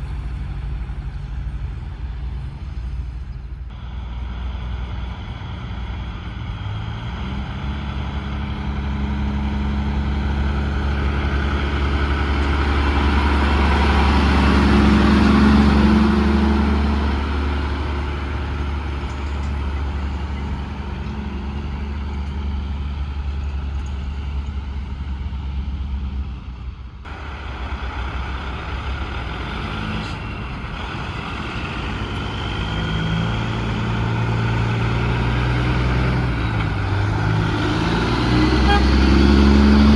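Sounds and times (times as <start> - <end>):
diesel truck engine passing: 0.0 - 39.9.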